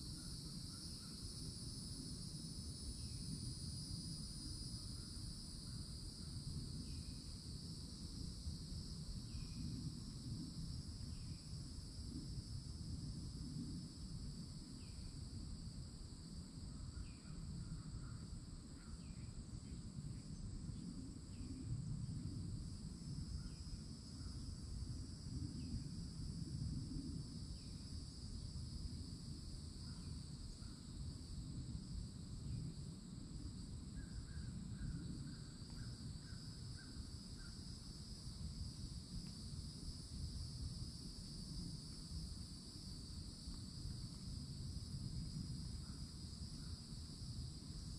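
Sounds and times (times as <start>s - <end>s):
cicadas droning: 0.0s - 47.9s.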